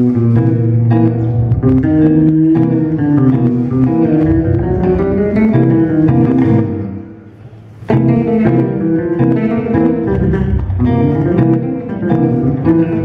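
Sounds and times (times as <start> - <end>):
electric bass guitars playing: 0.0 - 13.0.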